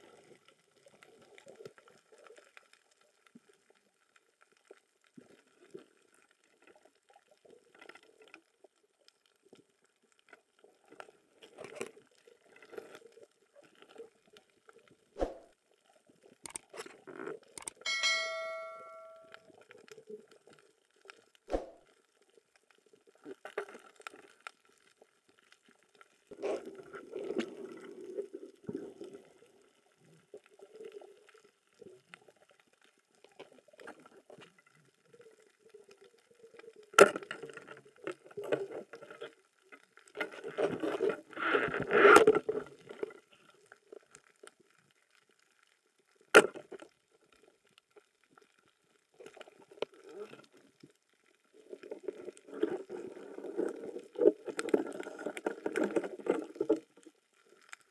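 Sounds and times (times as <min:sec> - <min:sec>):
underwater bubbling: 0:00.0 - 0:18.0, 0:19.2 - 0:57.9.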